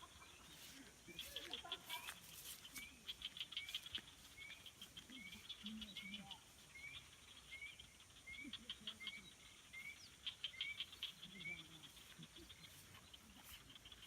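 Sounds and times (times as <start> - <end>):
faint clicking chirps: 1.4 - 14.0.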